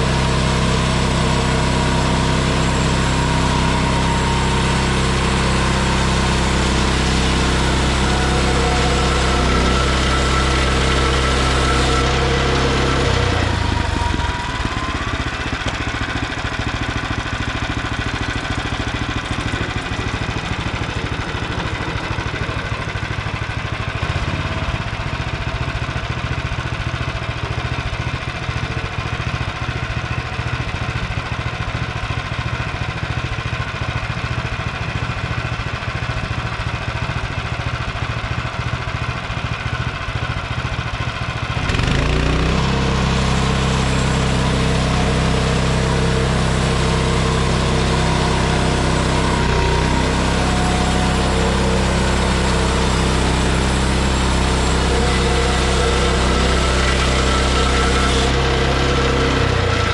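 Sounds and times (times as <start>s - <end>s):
small gasoline engine running: 0.0s - 59.9s.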